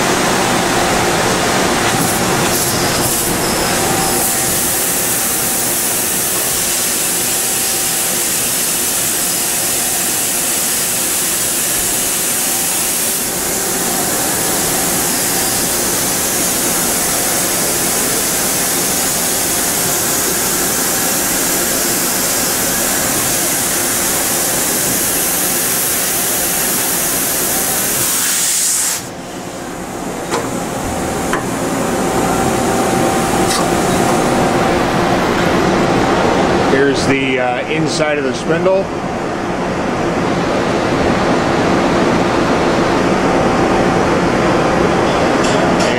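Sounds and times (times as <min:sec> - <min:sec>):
machine loud steady hiss: 0:00.0 - 0:39.3
machine hum: 0:00.0 - 0:45.9.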